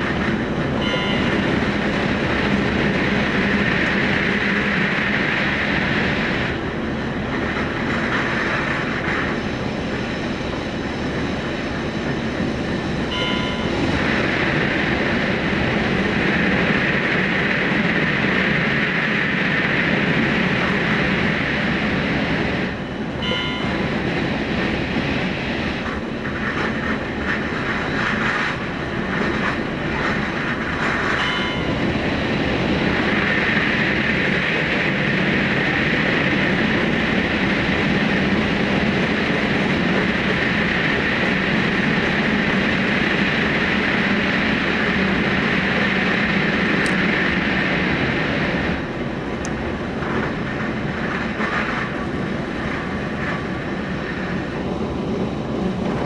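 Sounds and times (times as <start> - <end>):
wheels rushing on rail: 0.0 - 56.0.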